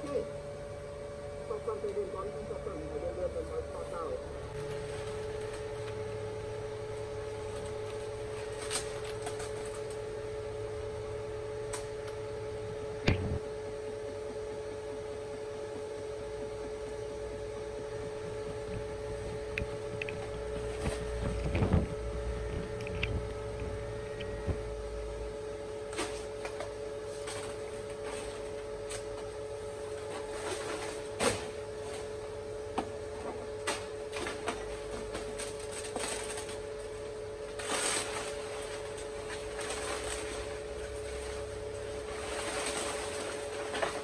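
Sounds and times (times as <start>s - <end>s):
steady two-tone hum: 0.0s - 44.0s.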